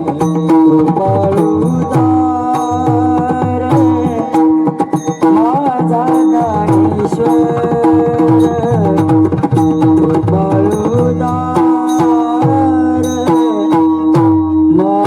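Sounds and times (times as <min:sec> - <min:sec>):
held melody line: 0:00.0 - 0:15.0
tabla rhythm: 0:00.0 - 0:15.0.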